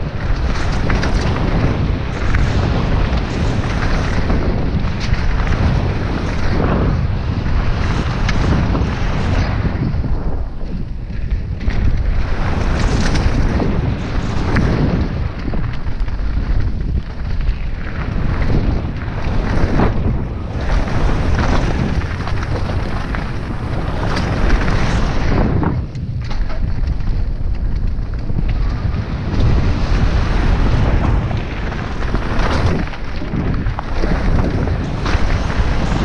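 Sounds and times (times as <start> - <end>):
bike rattling and knocking: 0.0 - 8.9, 10.2 - 36.0
tyres rumbling over gravel: 0.0 - 36.0
wind buffeting microphone: 0.0 - 36.0.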